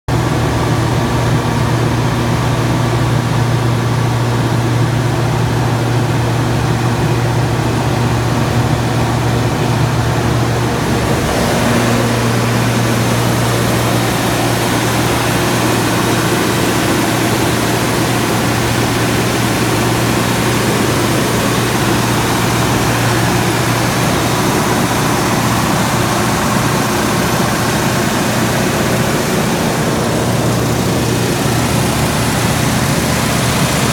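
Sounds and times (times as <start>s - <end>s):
generator engine running: 0.1s - 33.9s.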